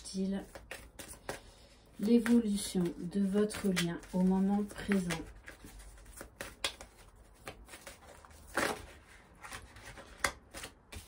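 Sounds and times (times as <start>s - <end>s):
cards being shuffled: 0.2s - 11.0s.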